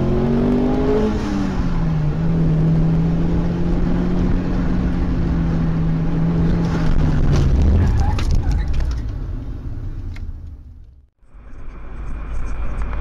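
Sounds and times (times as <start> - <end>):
car engine droning: 0.0 - 13.0
road rumble: 0.0 - 13.0.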